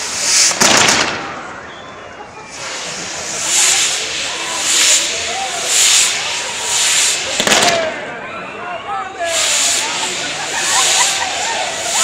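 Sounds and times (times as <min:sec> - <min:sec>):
fireworks hissing: 0:00.0 - 0:01.5, 0:02.4 - 0:08.1, 0:09.2 - 0:12.0.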